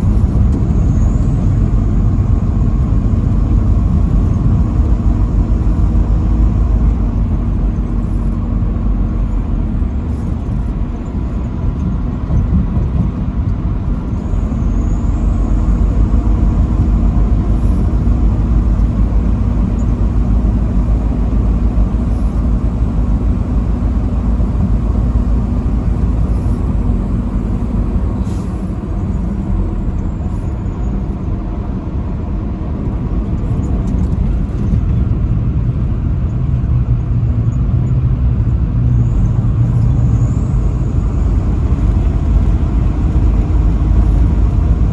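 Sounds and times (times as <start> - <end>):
truck engine and road rumble: 0.0 - 44.9.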